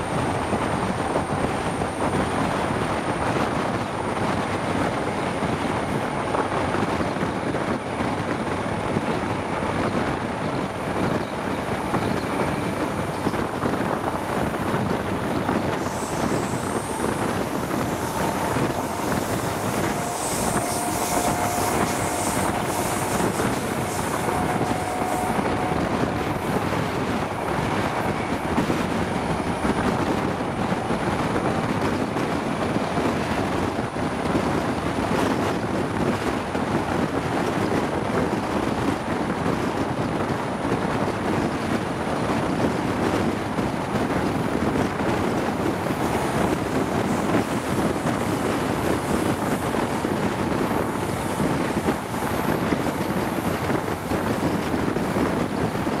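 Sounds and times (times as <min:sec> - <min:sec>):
train wheels on rails: 0:00.0 - 0:56.0
wind rushing over microphone: 0:00.0 - 0:56.0.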